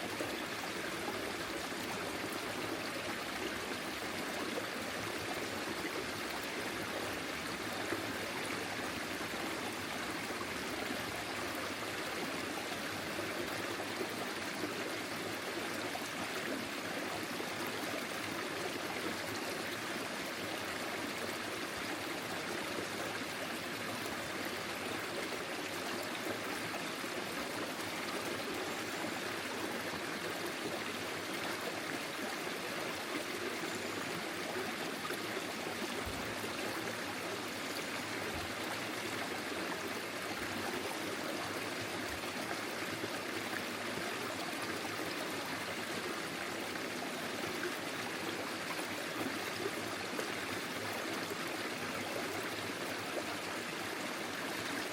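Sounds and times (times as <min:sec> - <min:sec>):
stream flowing over stones: 0:00.0 - 0:54.9.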